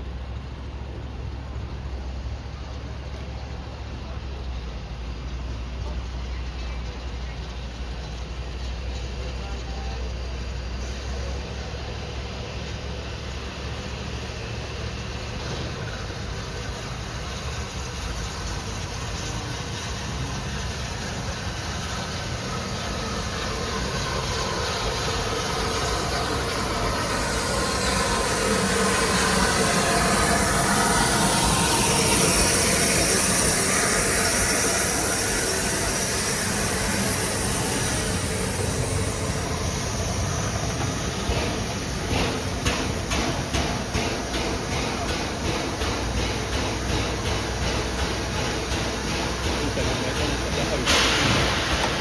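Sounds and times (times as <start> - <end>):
train passing: 0.0 - 52.0.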